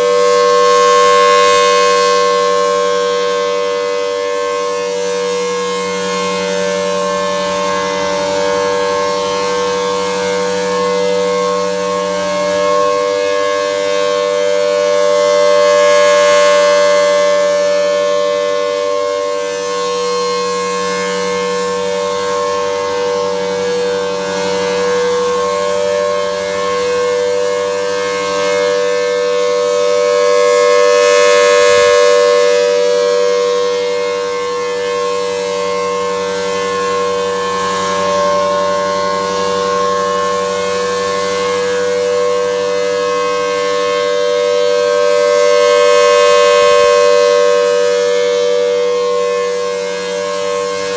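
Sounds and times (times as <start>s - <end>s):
tornado siren steady tone: 0.0s - 50.9s.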